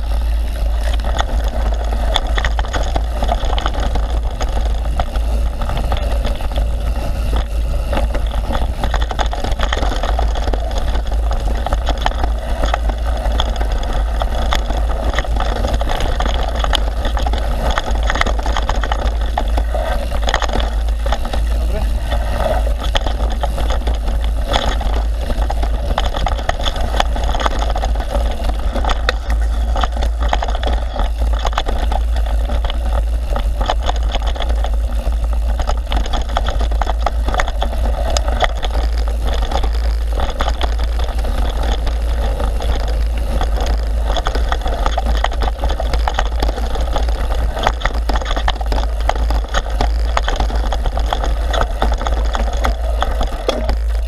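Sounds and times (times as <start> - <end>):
bike rattling and clicking: 0.0 - 54.0
wind rumble on microphone: 0.0 - 54.0.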